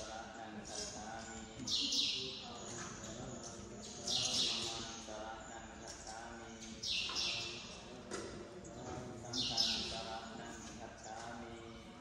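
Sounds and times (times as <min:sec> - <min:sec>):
monks chanting in monotone: 0:00.0 - 0:12.0.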